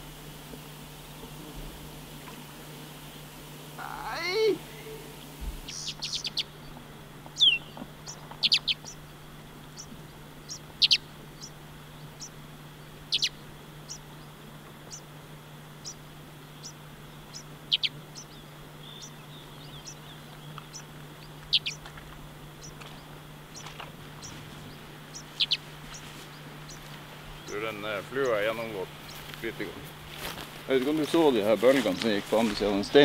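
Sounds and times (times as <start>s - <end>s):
faint low hum: 0.0s - 33.0s
small bird chirping: 3.0s - 31.6s.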